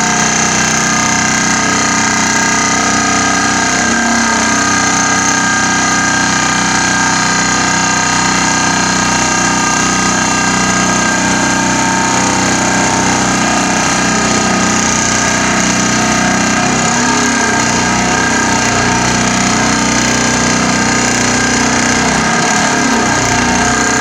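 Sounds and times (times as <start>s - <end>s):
pile driver mechanical drone: 0.0s - 24.0s.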